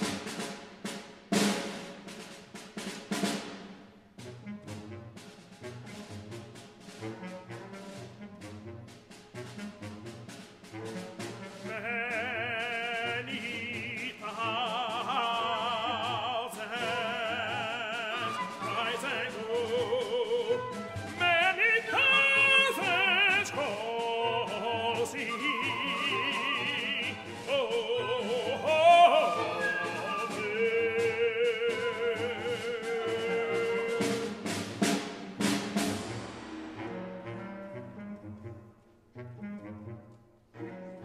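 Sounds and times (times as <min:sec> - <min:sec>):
chamber orchestra music: 0:00.0 - 0:41.0.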